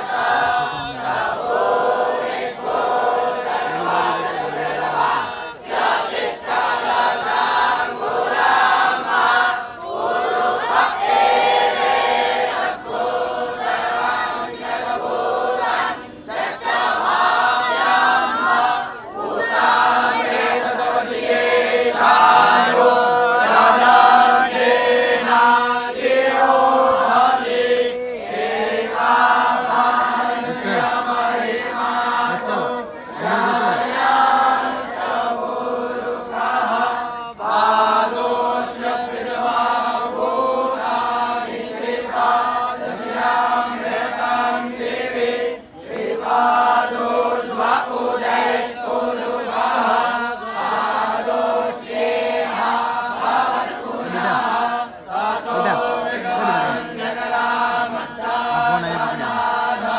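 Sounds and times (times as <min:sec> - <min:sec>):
group chanting in unison: 0:00.0 - 0:59.9.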